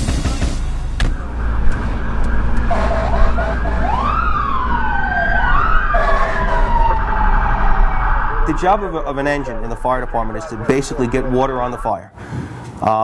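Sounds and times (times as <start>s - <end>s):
engine and road rumble: 0.0s - 11.4s
fire engine siren: 0.2s - 12.1s.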